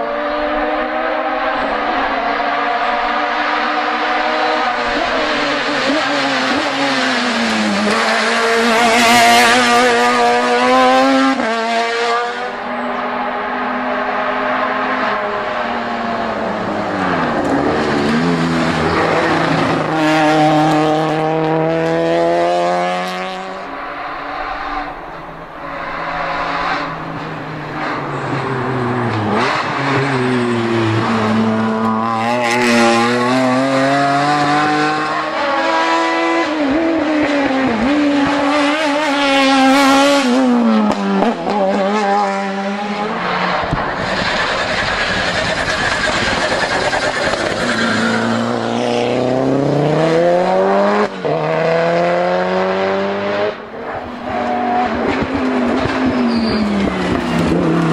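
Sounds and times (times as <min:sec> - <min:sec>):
race car engines at full throttle: 0:00.0 - 0:57.9.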